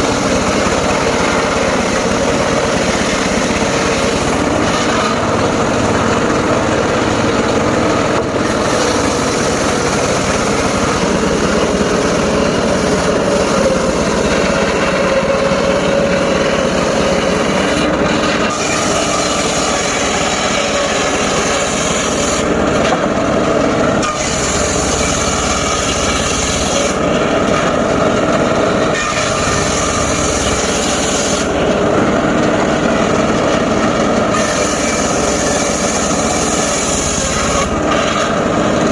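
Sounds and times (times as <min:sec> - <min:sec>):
saw blade cutting timber: 0:00.0 - 0:38.9
saw engine drone: 0:00.0 - 0:38.9.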